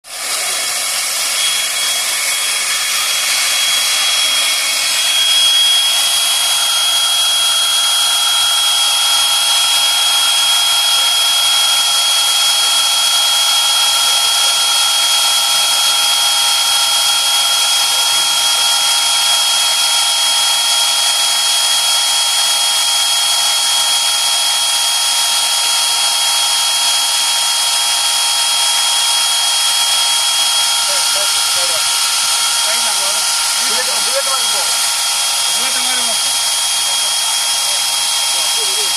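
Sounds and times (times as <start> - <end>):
drilling machine motor whine: 0.0 - 38.9.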